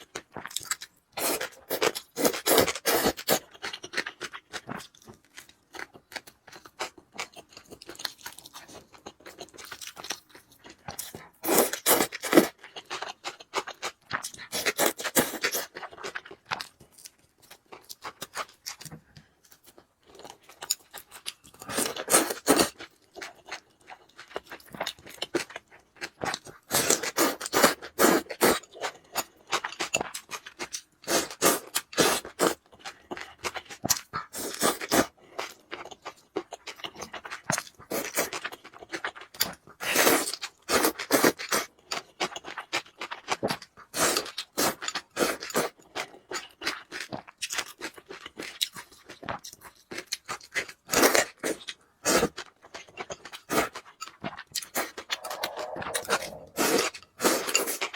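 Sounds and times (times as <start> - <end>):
chewing and crunching food: 0.0 - 57.9.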